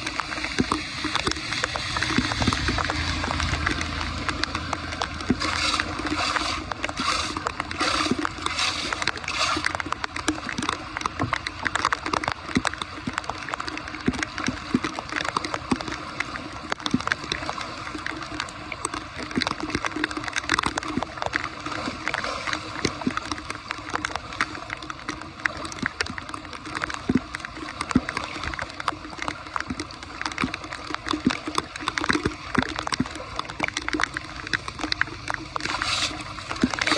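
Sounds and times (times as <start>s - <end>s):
floodwater sloshing and gurgling: 0.0s - 36.9s
small water splashes: 0.0s - 36.9s.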